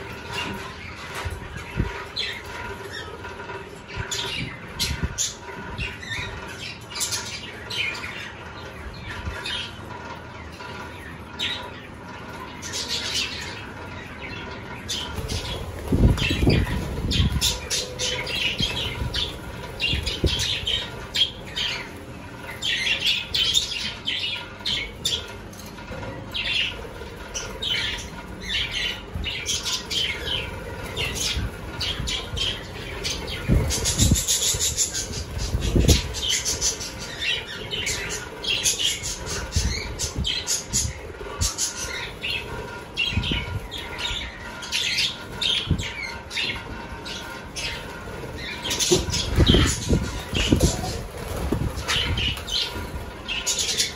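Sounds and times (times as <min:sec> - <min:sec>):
budgerigars chirping and squawking: 0:00.0 - 0:53.9.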